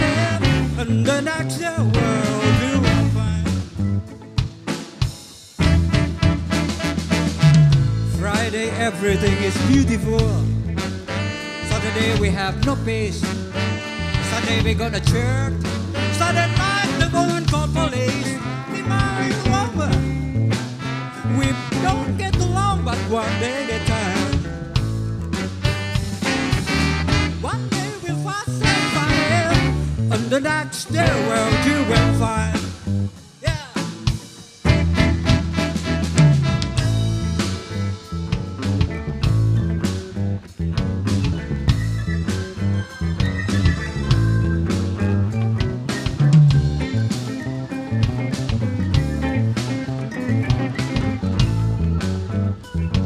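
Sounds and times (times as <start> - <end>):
band playing blues with brass: 0.0 - 53.0.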